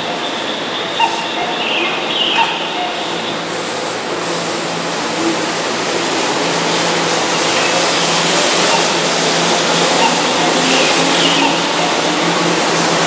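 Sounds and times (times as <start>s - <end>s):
electric train motors and wheels: 0.0s - 13.0s.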